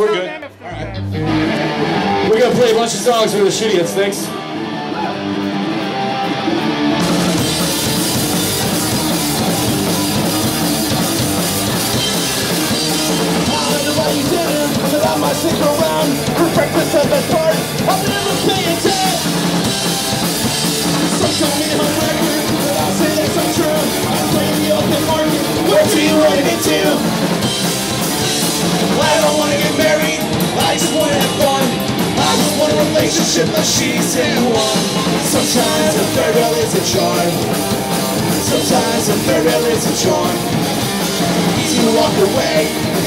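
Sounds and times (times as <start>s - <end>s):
punk rock band playing live: 0.0s - 43.0s.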